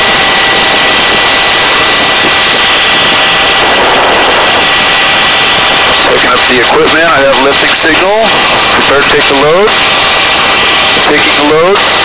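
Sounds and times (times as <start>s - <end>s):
helicopter hovering: 0.0s - 12.0s
thin high whine: 0.0s - 12.0s.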